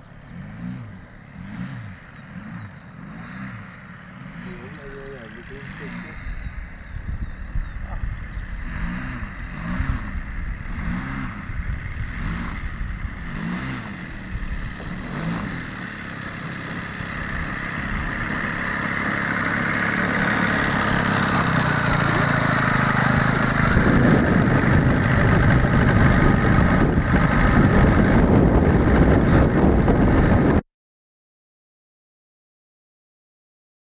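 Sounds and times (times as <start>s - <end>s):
model plane engine running: 0.0s - 30.6s.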